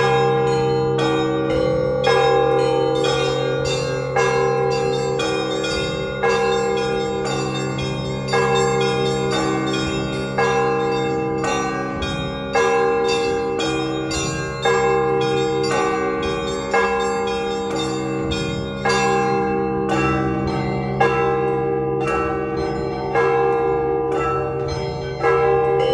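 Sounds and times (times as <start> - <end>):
heavy church bell strokes: 0.0 - 25.9.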